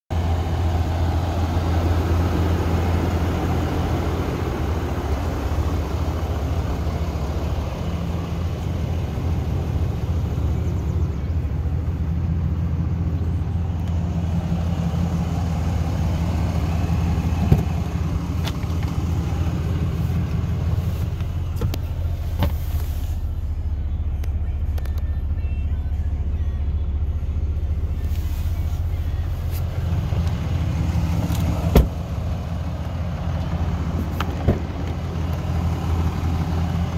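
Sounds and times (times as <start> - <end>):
pickup engine idling: 0.1 - 36.9.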